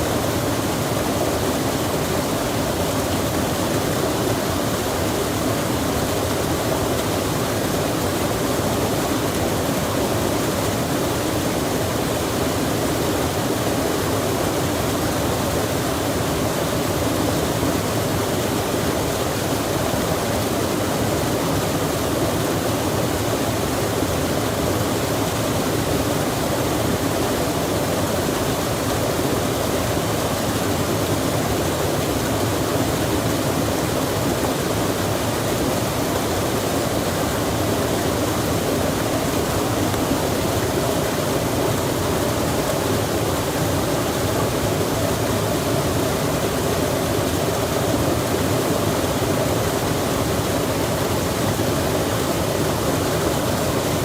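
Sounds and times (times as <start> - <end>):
stream rushing: 0.0 - 54.0.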